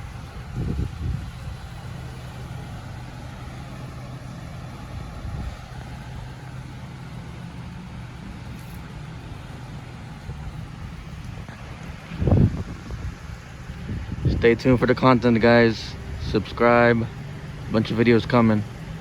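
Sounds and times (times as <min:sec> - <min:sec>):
car engine idling: 0:00.0 - 0:19.0
steady hiss: 0:00.0 - 0:19.0.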